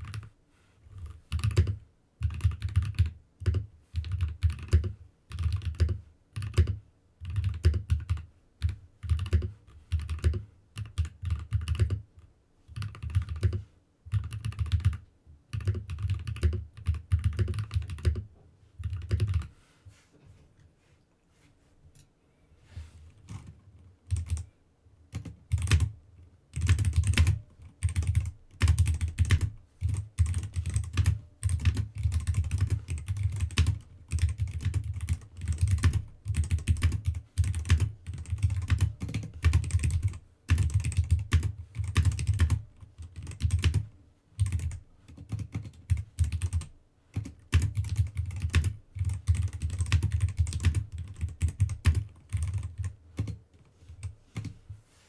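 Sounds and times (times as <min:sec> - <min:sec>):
computer keyboard typing: 0:00.0 - 0:00.3, 0:01.0 - 0:12.1, 0:12.7 - 0:19.5, 0:24.1 - 0:24.5, 0:25.1 - 0:53.4, 0:54.0 - 0:54.6.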